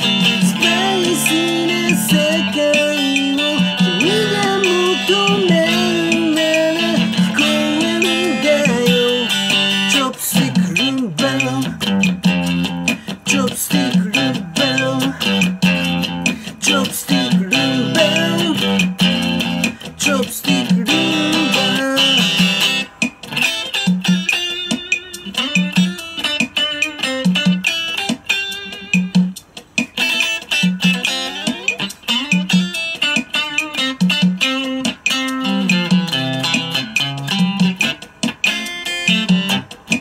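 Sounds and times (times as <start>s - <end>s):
electric guitar melody: 0.0s - 40.0s
rhythm box beat: 0.0s - 40.0s.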